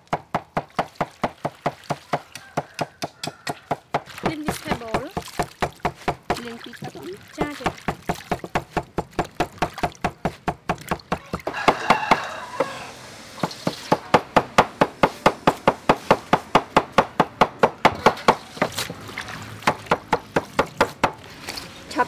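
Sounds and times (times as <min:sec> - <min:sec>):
cleaver chopping on wooden board: 0:00.1 - 0:06.5, 0:07.4 - 0:12.7, 0:13.4 - 0:18.9, 0:19.7 - 0:21.2.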